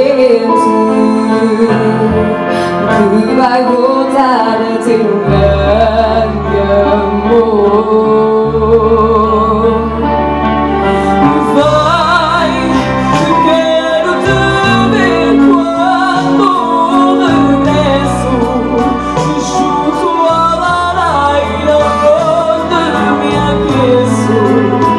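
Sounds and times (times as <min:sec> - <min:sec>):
women singing with vibrato: 0:00.0 - 0:10.4, 0:11.0 - 0:24.9
instrumental accompaniment: 0:00.0 - 0:24.9.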